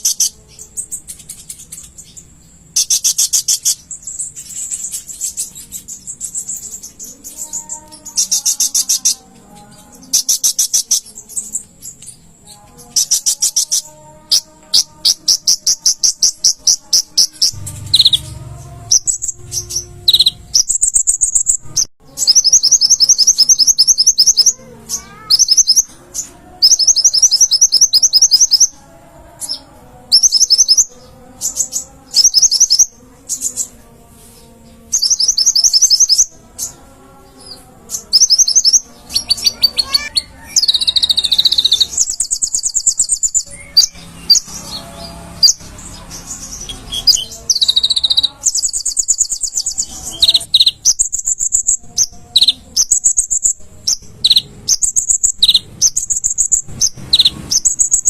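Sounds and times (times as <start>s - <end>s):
bird twittering trills: 0.0s - 33.8s, 34.8s - 58.0s.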